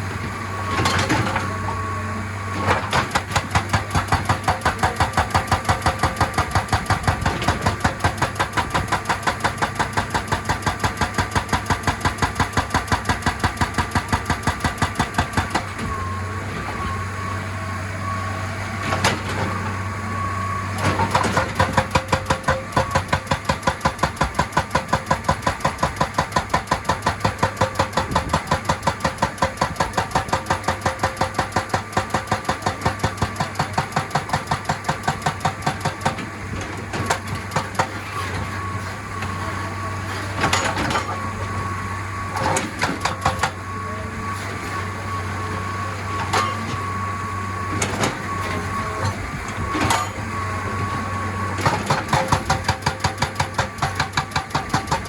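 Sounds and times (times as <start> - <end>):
diesel engine running: 0.0 - 55.0
hydraulic rock breaker hammering: 0.6 - 1.9, 2.5 - 17.0, 18.8 - 19.9, 20.6 - 55.0.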